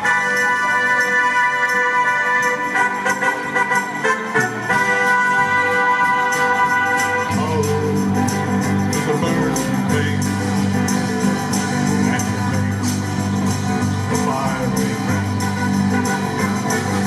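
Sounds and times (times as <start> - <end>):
bass line: 0.0 - 17.0
live band playing: 0.0 - 17.0.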